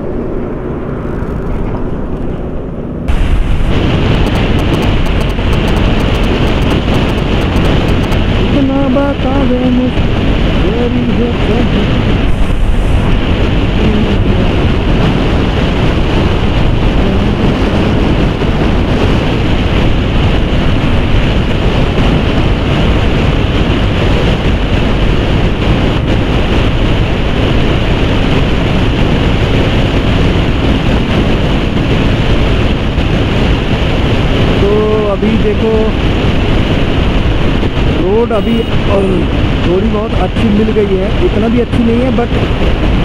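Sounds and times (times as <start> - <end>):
motorcycle engine: 0.0 - 34.8
wind rush over microphone: 0.0 - 43.0.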